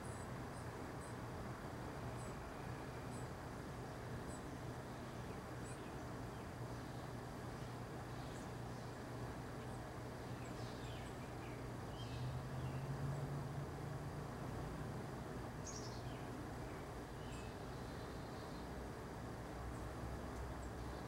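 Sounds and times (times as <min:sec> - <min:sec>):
steady low hum: 0:00.0 - 0:21.0
wild birds chirping: 0:02.0 - 0:21.0.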